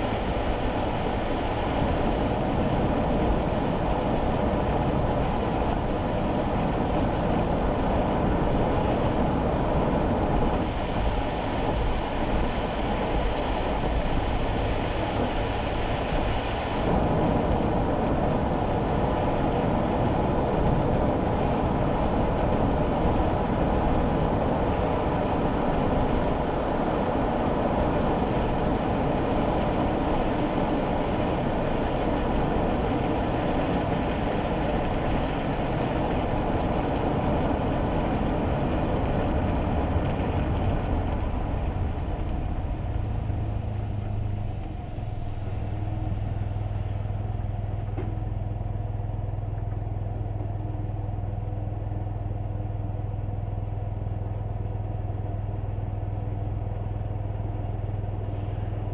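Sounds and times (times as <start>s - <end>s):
car engine idling hum: 0.0s - 58.9s
tyre noise on wet road: 0.0s - 58.9s.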